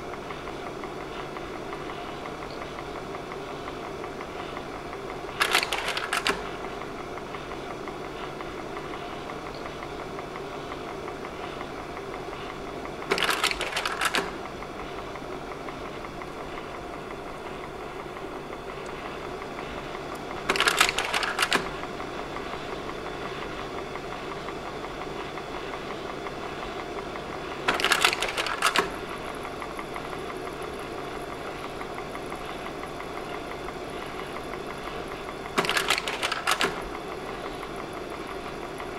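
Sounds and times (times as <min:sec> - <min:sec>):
projector fan hum: 0:00.0 - 0:38.9.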